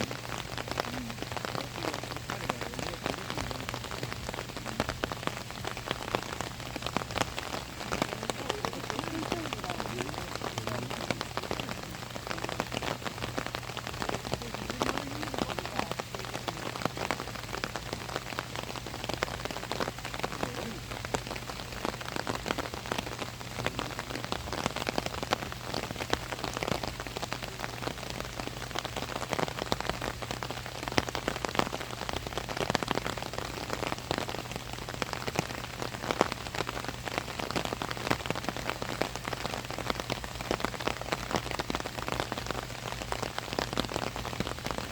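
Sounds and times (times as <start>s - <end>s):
low steady hum: 0.0s - 44.9s
rain on an umbrella: 0.0s - 44.9s.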